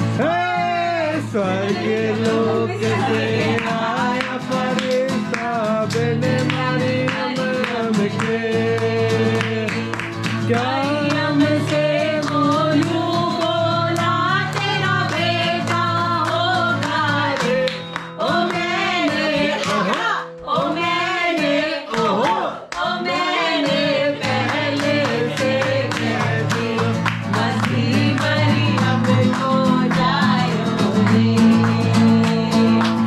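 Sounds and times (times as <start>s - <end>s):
acoustic guitar strumming: 0.0s - 33.0s
people singing along: 0.0s - 33.0s
hand-clapping in time: 1.6s - 33.0s.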